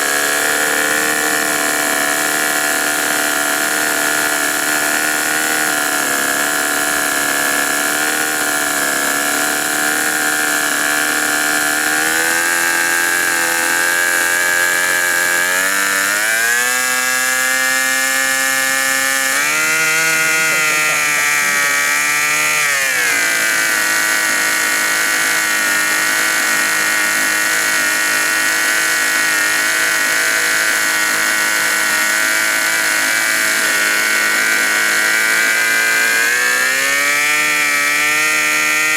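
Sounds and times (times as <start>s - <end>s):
model aircraft engine running: 0.0s - 38.9s.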